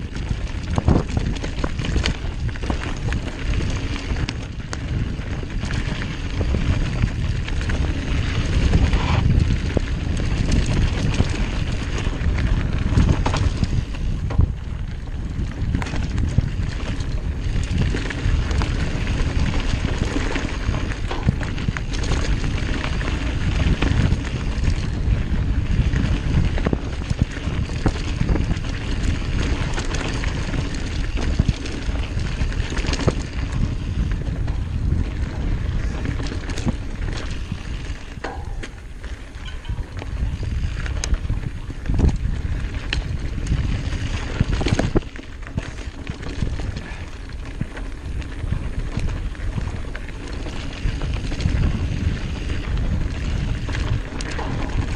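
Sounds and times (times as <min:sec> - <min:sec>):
bike rattling clicks and knocks: 0:00.0 - 0:54.9
tyres rolling on dirt: 0:00.0 - 0:54.9
wind rushing over microphone: 0:00.0 - 0:54.9.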